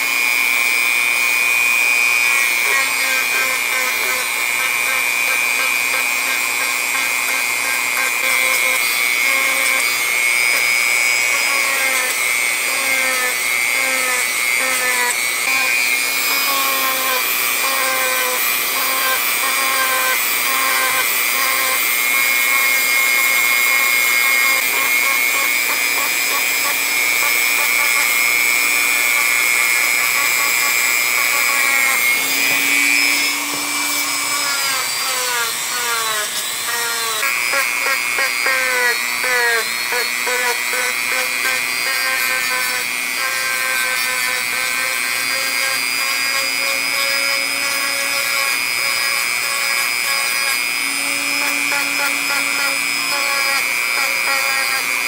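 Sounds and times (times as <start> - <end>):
high-speed power tool whining: 0.0 - 55.0.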